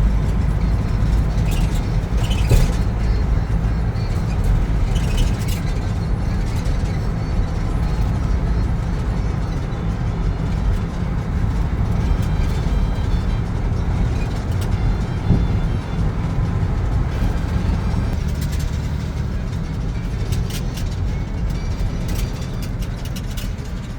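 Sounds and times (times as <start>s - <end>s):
vehicle rumble in motion: 0.0s - 23.9s.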